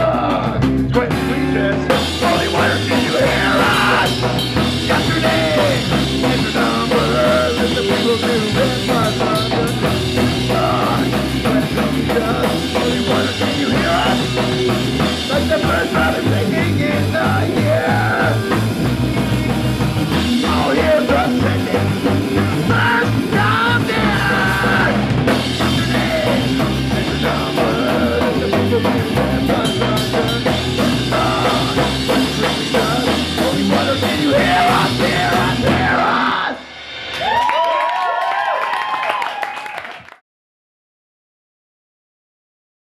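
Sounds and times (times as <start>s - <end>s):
punk rock band playing live: 0.0s - 37.5s.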